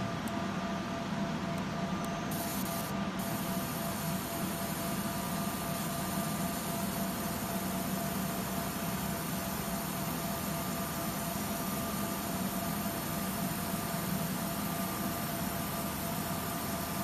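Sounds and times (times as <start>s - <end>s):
laser marking machine hissing: 2.2s - 17.0s.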